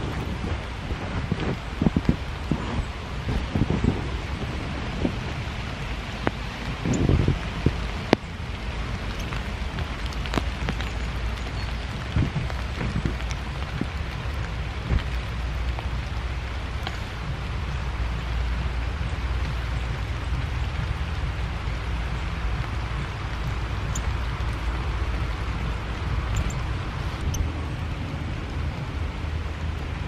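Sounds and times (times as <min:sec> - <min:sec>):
raindrops ticking: 0:00.0 - 0:30.0
steady rain: 0:00.0 - 0:30.0.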